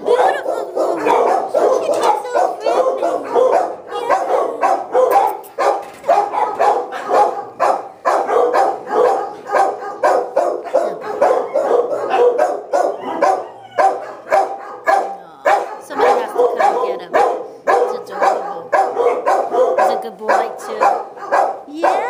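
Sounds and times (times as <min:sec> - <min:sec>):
dog barking: 0:00.0 - 0:22.0.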